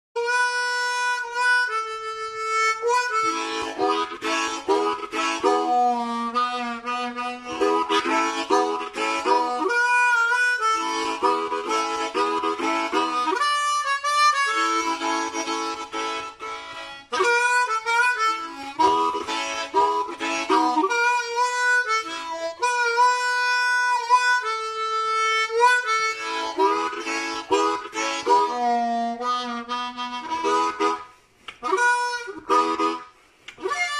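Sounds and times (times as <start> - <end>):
blues harmonica solo: 0.2 - 33.9.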